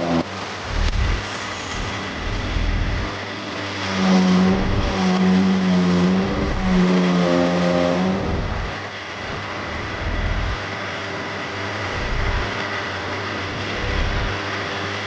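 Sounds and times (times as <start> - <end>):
power tool motor hum: 0.0 - 10.8, 11.7 - 14.4.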